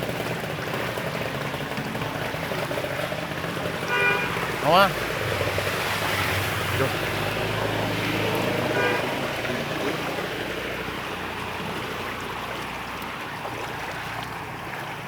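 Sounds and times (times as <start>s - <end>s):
floodwater rushing: 0.0s - 15.0s
vehicle engine running: 0.0s - 15.0s.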